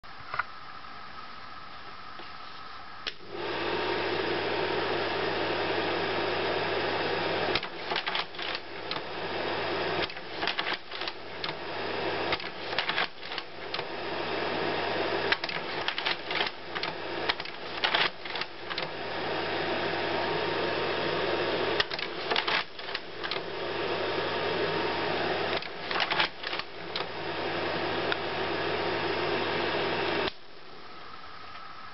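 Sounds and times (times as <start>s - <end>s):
projector cooling fan humming: 0.0s - 31.9s.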